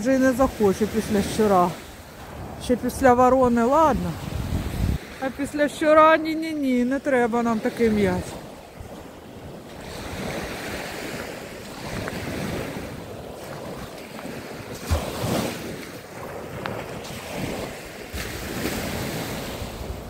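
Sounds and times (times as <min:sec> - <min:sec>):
small waves breaking on shore: 0:00.0 - 0:20.0
wind buffeting microphone: 0:00.0 - 0:20.0.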